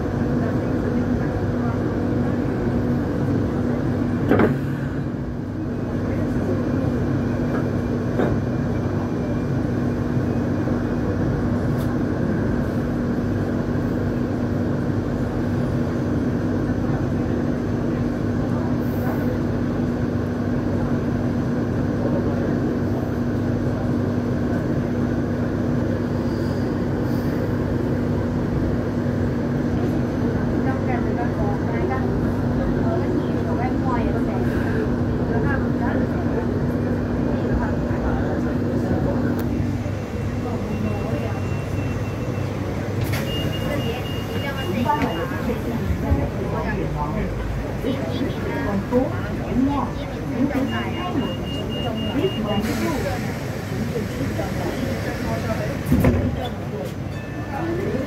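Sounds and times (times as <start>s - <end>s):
tram running rumble: 0.0s - 58.0s.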